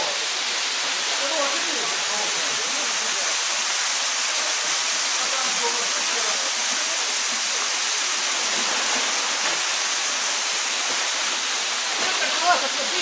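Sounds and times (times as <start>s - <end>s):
waterfall pouring into a pool: 0.0s - 13.0s.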